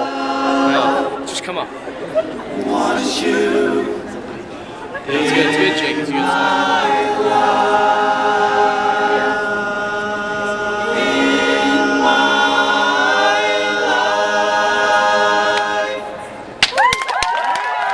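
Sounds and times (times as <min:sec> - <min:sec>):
a cappella group singing chords: 0:00.0 - 0:01.4, 0:02.4 - 0:16.4.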